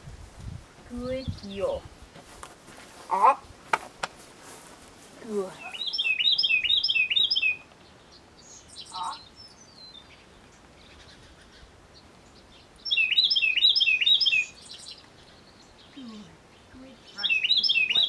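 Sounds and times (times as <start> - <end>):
songbird chirping: 0.8 - 1.9, 3.0 - 18.0.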